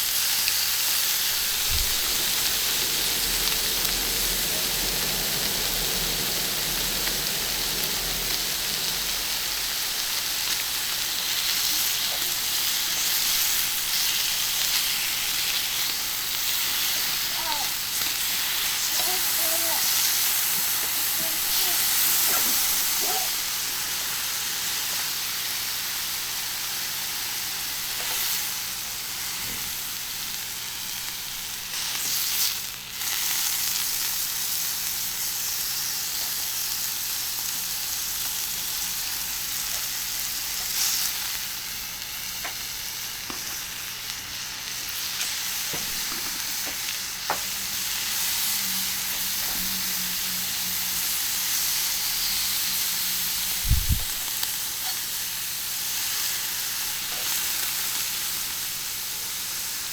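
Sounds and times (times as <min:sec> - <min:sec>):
meat sizzling on a griddle: 0:00.0 - 0:59.9.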